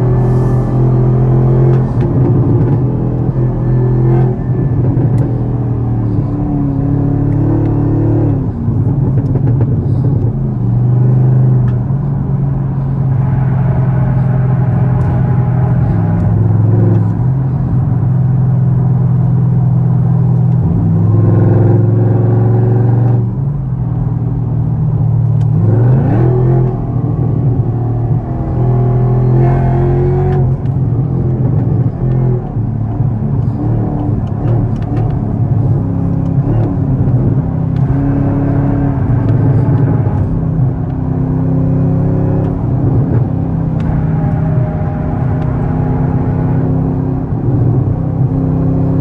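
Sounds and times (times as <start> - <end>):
car engine revving at speed: 0.0 - 49.0.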